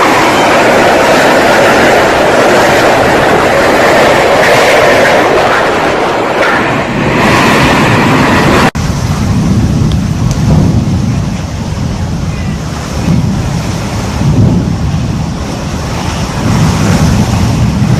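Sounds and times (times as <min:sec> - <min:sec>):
low rumbling wind: 0:00.0 - 0:17.9
strong wind rushing: 0:00.0 - 0:17.9.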